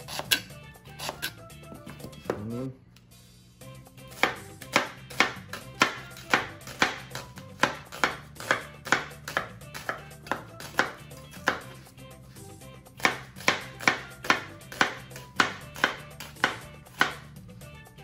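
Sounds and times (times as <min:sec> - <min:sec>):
knife chopping on cutting board: 0:00.0 - 0:02.6, 0:04.1 - 0:11.9, 0:13.0 - 0:17.3.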